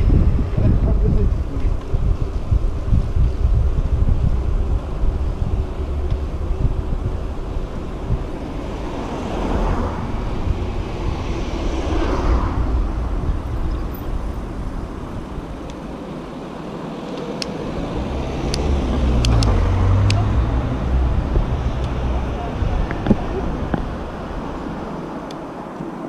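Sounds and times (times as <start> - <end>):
road traffic passing: 0.0 - 26.0
wind rumbling on microphone: 0.0 - 26.0.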